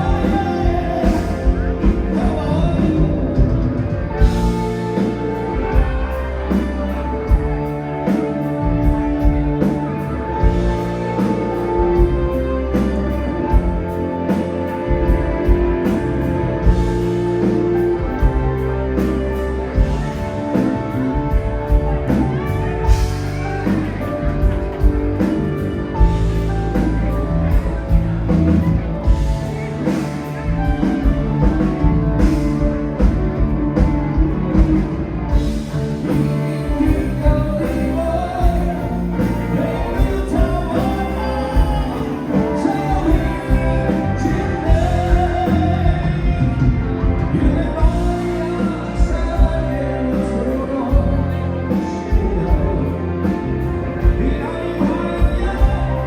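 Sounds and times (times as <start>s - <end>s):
live rock band playing: 0.0s - 56.0s
person singing: 0.0s - 56.0s
steady drum beat: 0.0s - 56.0s.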